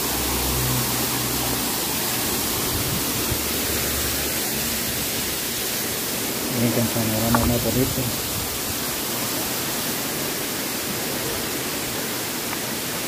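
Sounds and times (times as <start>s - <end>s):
waterfall rushing into a pool: 0.0s - 13.0s.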